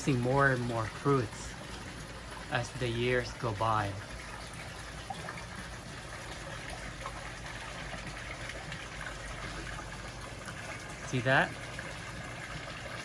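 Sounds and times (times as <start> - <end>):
pond water trickling: 0.0 - 13.0.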